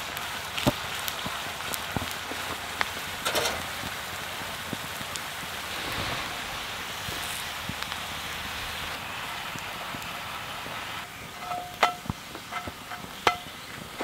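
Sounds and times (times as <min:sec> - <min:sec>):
food sizzling in a skillet: 0:00.0 - 0:14.0
oil crackling and popping: 0:00.0 - 0:14.0.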